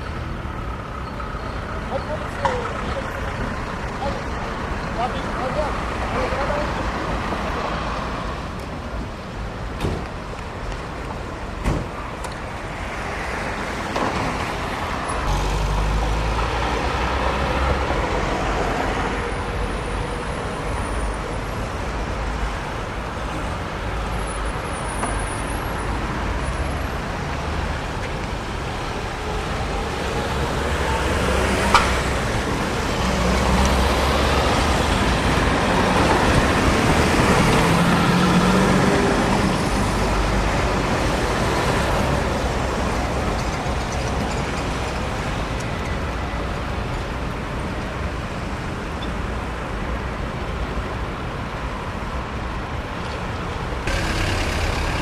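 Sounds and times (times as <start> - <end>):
tram rumbling by: 0.0 - 24.0, 25.4 - 48.7, 53.2 - 55.0
cars and trucks passing: 0.0 - 55.0.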